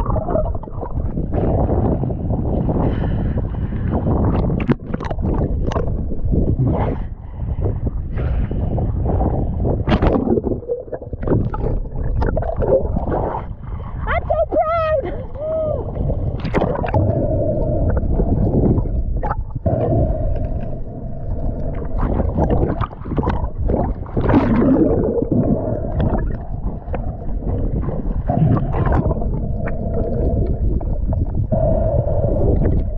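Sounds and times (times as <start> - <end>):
bubbling: 0.0 - 32.9
underwater rumble of moving water: 0.0 - 32.9.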